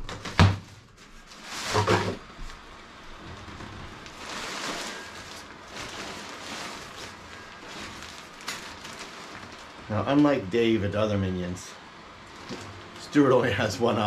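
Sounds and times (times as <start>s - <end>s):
fabric rustling and crinkling: 0.6s - 11.0s, 11.9s - 14.0s
blower fan running: 1.4s - 14.0s.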